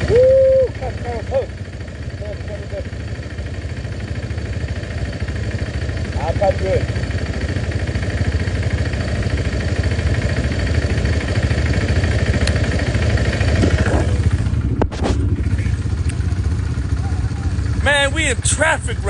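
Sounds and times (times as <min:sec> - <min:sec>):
motorcycle engine rumble: 0:00.0 - 0:19.0
rushing road noise: 0:00.0 - 0:19.0.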